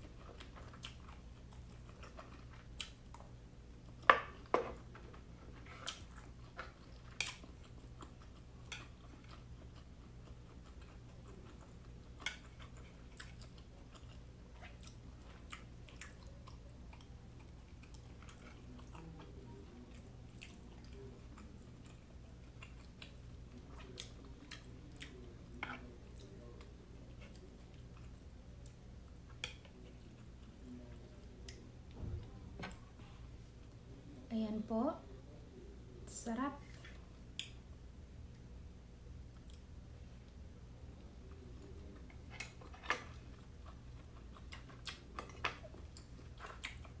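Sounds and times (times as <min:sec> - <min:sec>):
close-up chewing and mouth smacks: 0:00.0 - 0:32.0, 0:39.3 - 0:39.7, 0:41.3 - 0:47.0
steady low hum: 0:00.0 - 0:47.0.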